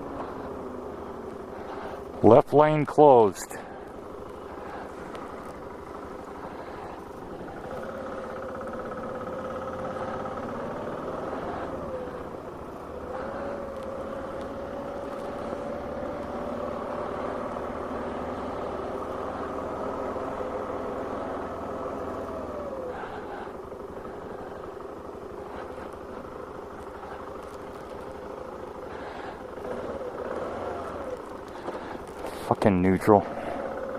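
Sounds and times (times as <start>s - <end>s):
car engine: 0.0s - 33.9s
road noise inside car: 0.0s - 33.9s.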